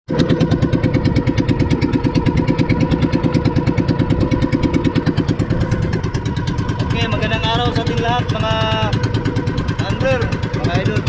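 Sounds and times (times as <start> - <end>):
boat engine pulsing: 0.1 - 11.0
engine whine: 0.1 - 11.0.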